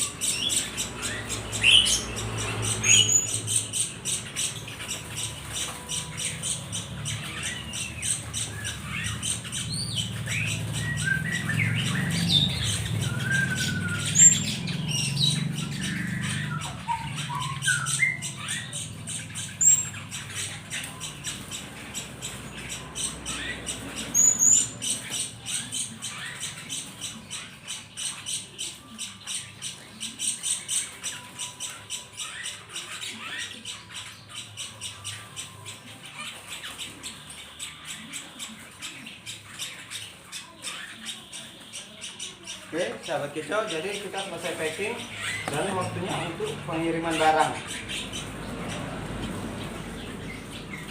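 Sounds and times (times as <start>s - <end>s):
songbirds chirping and squawking: 0.0s - 50.9s.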